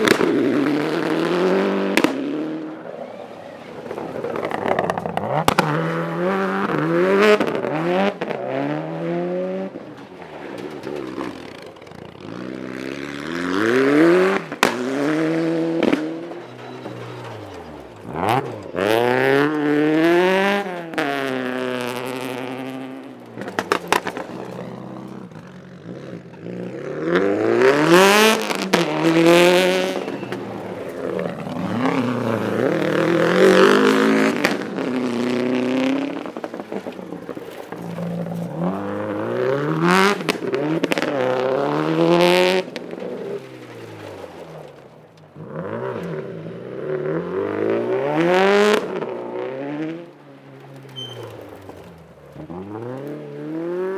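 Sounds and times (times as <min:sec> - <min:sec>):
sharp crackles: 0:00.0 - 0:08.4, 0:09.9 - 0:46.1, 0:47.5 - 0:53.9
rally car engines revving: 0:00.0 - 0:53.9.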